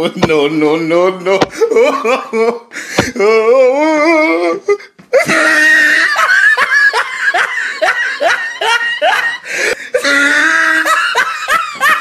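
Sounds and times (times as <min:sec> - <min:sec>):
man laughing hard: 0:01.4 - 0:12.0.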